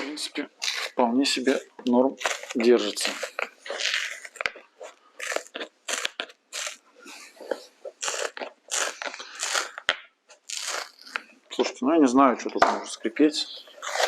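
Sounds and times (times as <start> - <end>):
shoe sole layers tearing: 0.0 - 11.4, 13.7 - 14.0.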